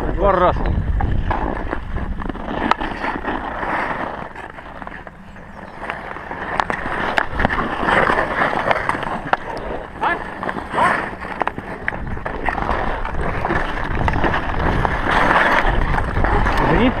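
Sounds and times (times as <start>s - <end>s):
hockey sticks clacking: 1.0s - 17.0s
ice skates scraping ice: 1.0s - 17.0s.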